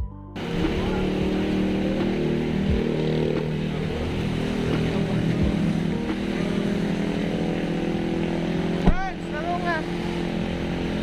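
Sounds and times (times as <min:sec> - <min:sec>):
vehicle engine idling: 0:00.4 - 0:11.0.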